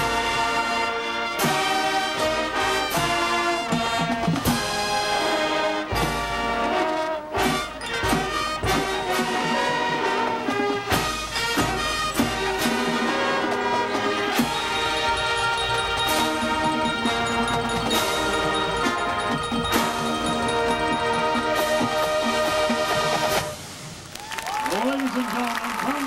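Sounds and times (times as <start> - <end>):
marching band playing: 0.0 - 24.2
drum and cymbal hits: 1.4 - 6.7, 7.4 - 24.0.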